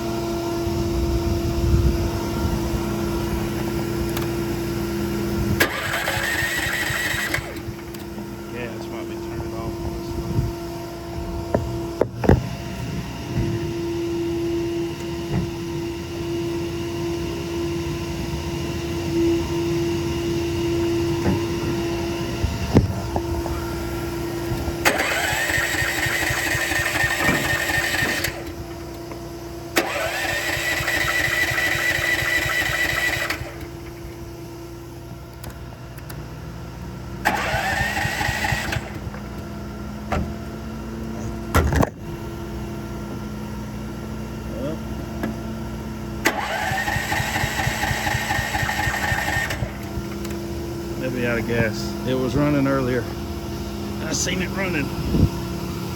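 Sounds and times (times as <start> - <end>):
engine cranking whine: 0.0 - 55.9.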